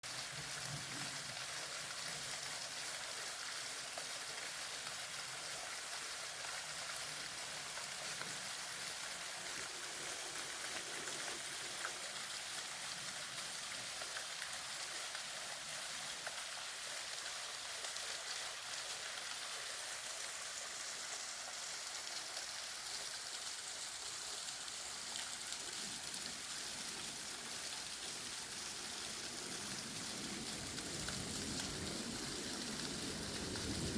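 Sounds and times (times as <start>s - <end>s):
stream running over rocks: 0.0s - 33.9s.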